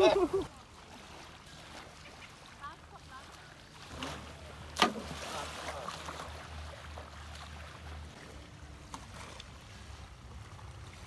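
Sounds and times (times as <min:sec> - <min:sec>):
shallow water splashing: 0:00.0 - 0:11.0.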